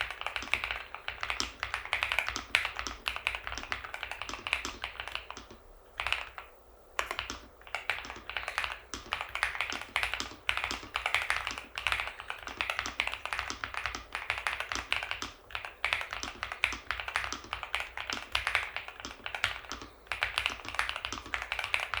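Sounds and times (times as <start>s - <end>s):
mechanical keyboard fast typing: 0.0s - 22.0s.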